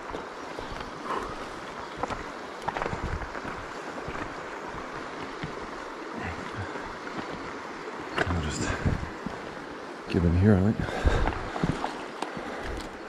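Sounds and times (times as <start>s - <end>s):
river rushing over stones: 0.0s - 13.0s
wind buffeting microphone: 0.0s - 13.0s.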